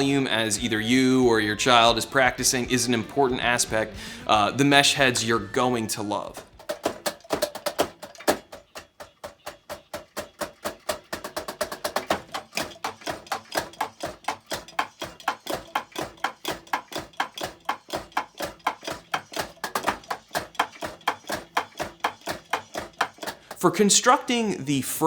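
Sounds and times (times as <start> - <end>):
rapid electronic drum hits: 0.0 - 23.7.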